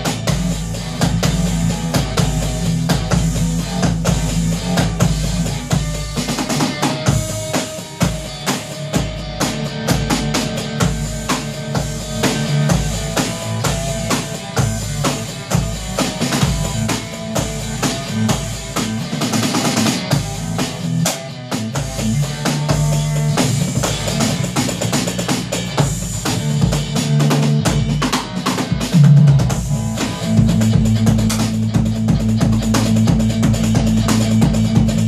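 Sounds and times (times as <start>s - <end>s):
bass notes: 0.0s - 35.0s
drum beat: 0.0s - 35.0s
electric guitar: 0.0s - 35.0s.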